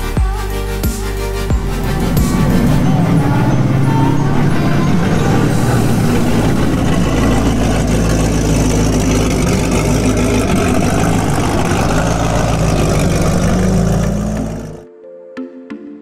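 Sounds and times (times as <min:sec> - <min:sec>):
car engine idling: 0:01.0 - 0:14.8.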